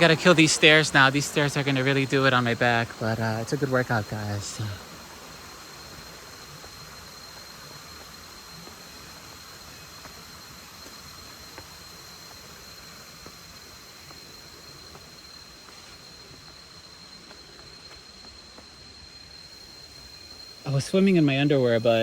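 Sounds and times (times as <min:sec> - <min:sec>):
high-pitched insect drone: 0:00.0 - 0:22.0
outdoor background hiss: 0:00.0 - 0:22.0.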